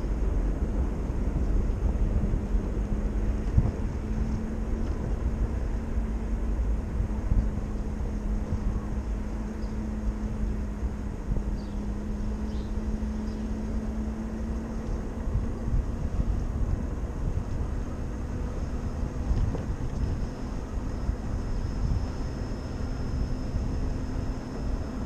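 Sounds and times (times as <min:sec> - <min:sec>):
road rumble: 0:00.0 - 0:25.0
steady low hum: 0:00.0 - 0:25.0
wind rush: 0:00.0 - 0:25.0.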